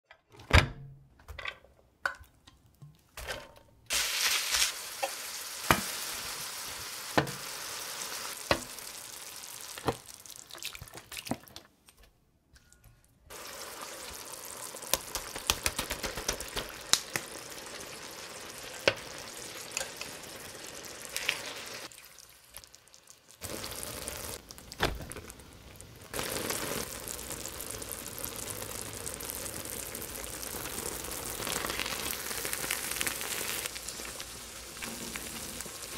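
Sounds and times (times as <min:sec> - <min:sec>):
meat sizzling in a pan: 0:03.9 - 0:10.6, 0:13.3 - 0:35.9.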